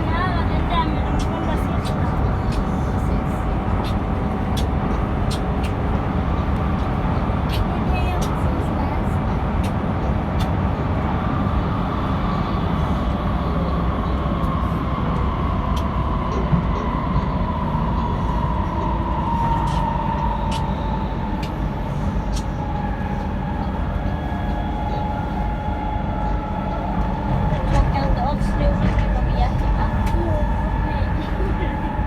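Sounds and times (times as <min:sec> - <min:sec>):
metro train rumbling: 0:00.0 - 0:32.0.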